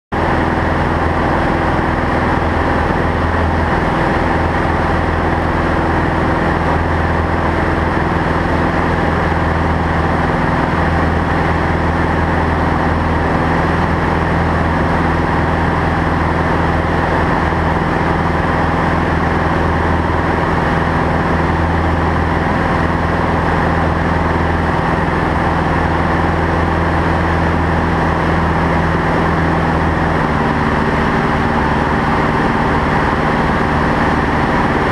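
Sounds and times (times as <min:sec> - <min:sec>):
aircraft engine and propeller droning: 0:00.1 - 0:34.9.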